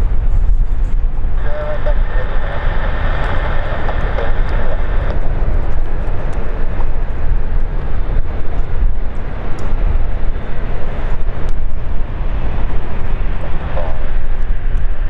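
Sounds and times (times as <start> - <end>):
airliner engine rumble: 0.0 - 15.0
engine hiss: 0.0 - 15.0.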